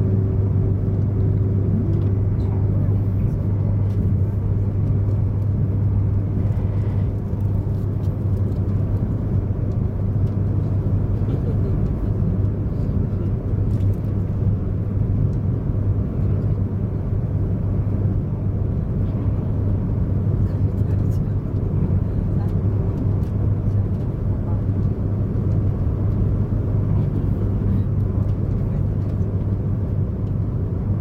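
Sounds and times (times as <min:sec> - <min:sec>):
constant low hum: 0:00.0 - 0:31.0
train running noise: 0:00.0 - 0:31.0.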